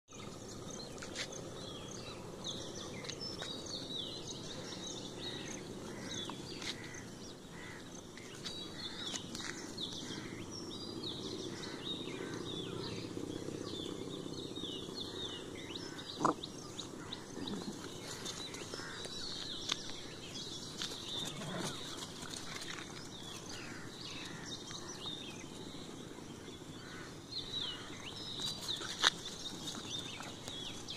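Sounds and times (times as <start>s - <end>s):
small birds chirping: 0.1s - 30.9s.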